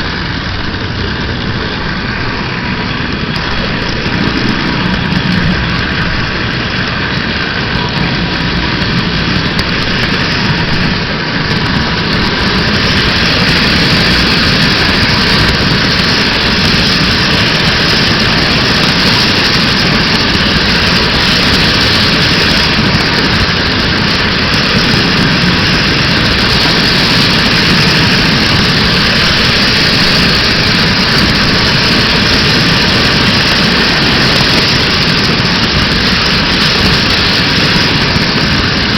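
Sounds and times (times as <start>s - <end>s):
model train rolling on track: 0.0s - 38.9s.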